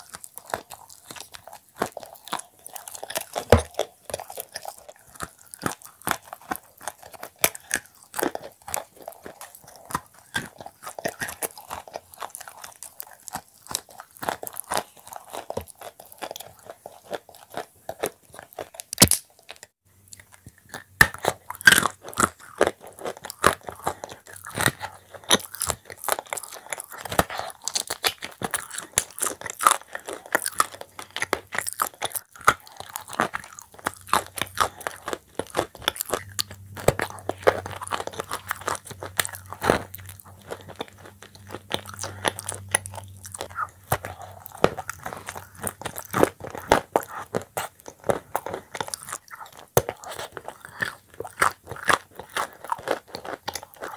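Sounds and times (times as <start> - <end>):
crunching and chewing cookies: 0.0 - 53.9.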